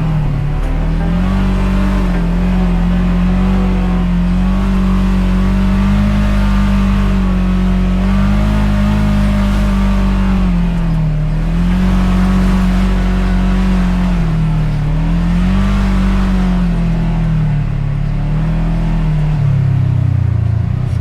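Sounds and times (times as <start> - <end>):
utility vehicle engine revving: 0.0 - 21.0.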